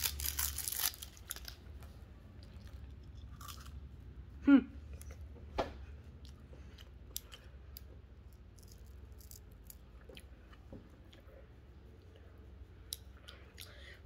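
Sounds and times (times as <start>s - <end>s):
faint chewing of crispy chocolate: 0.0s - 3.9s, 6.1s - 14.0s
low steady hum: 0.0s - 14.0s.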